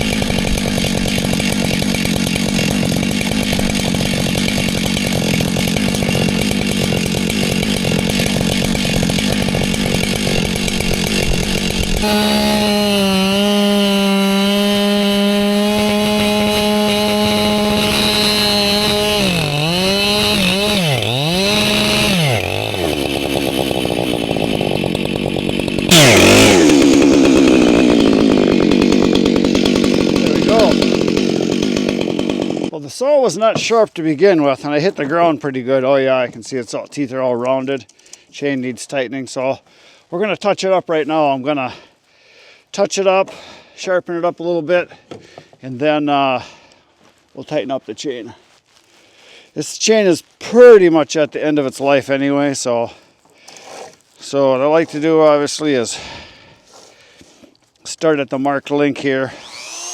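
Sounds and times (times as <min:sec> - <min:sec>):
chainsaw cutting: 0:00.0 - 0:36.3, 0:44.9 - 0:59.9.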